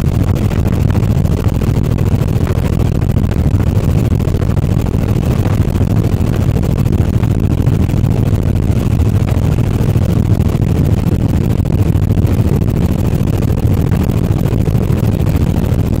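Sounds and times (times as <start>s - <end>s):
helicopter running: 0.0s - 16.0s.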